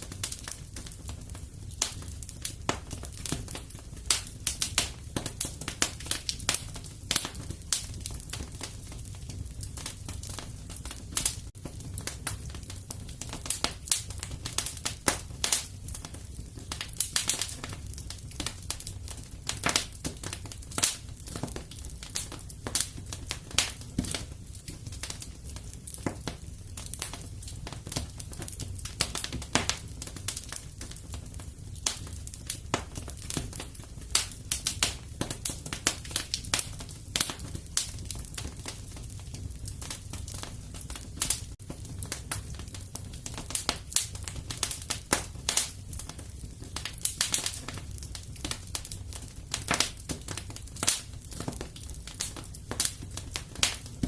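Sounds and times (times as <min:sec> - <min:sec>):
burning logs popping and crackling: 0:00.0 - 0:54.0
fire flames rumbling: 0:00.0 - 0:54.0.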